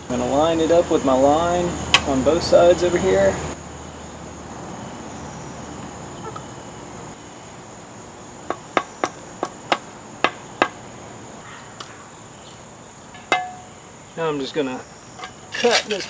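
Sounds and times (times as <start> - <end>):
high insect trill: 0.1 - 16.0.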